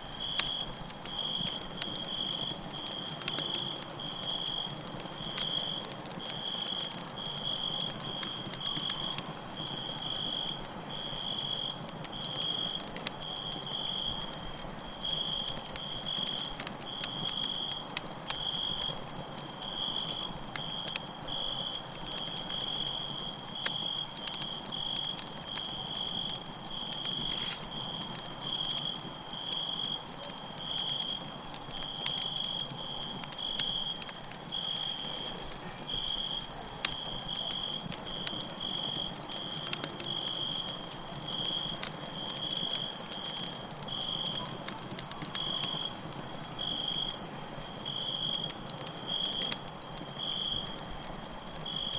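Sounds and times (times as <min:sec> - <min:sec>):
campfire crackling and popping: 0:00.0 - 0:51.9
cricket chirping: 0:00.1 - 0:14.2, 0:15.0 - 0:51.9.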